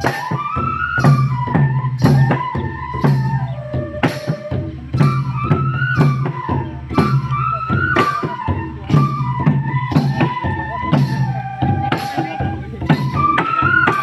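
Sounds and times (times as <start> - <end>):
flute melody: 0.0 - 14.0
steady drum beat: 0.0 - 14.0.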